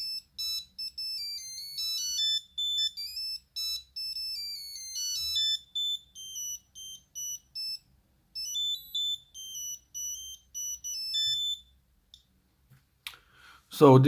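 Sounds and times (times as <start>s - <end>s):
monophonic ringtone melody: 0.0s - 11.8s.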